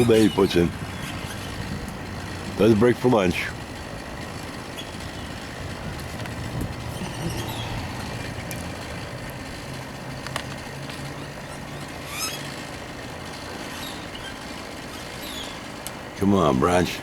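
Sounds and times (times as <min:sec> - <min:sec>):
distant tree-trimming machinery hum: 0:00.0 - 0:17.0.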